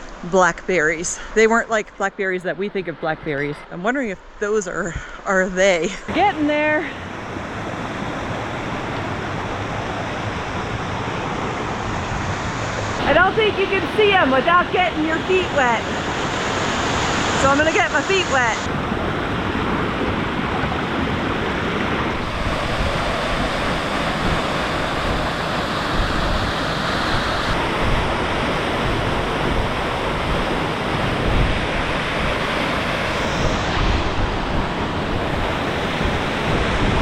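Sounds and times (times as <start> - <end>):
wind rumble on microphone: 6.0 - 37.0
waterfall rushing: 6.1 - 37.0.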